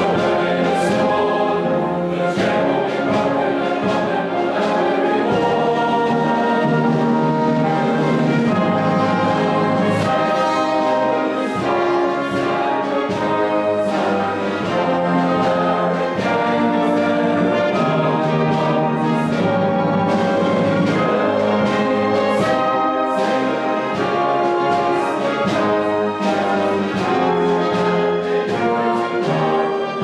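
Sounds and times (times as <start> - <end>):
brass section: 0.0 - 30.0
orchestra playing classical music: 0.0 - 30.0.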